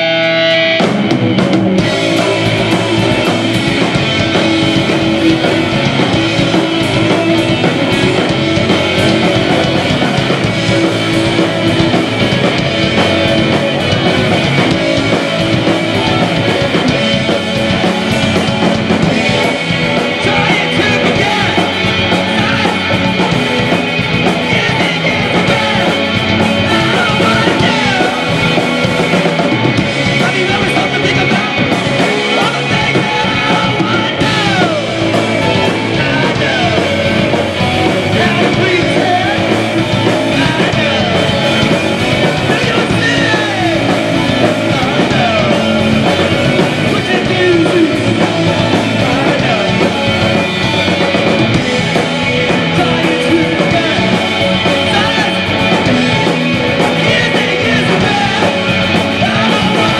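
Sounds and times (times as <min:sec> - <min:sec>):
drums: 0:00.0 - 0:59.9
electric bass: 0:00.0 - 0:59.9
electric guitar: 0:00.0 - 0:59.9
person singing: 0:01.8 - 0:59.9.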